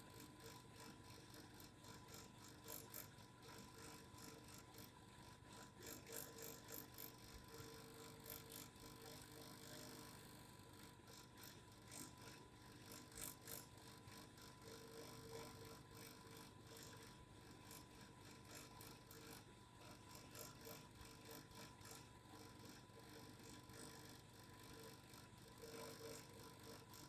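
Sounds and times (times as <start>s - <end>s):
faint vibrating hum: 0.0s - 27.0s.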